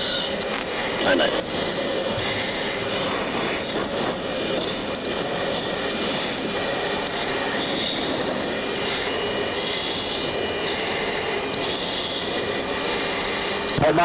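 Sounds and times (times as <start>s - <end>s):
jet cockpit air and engine rush: 0.0s - 14.0s.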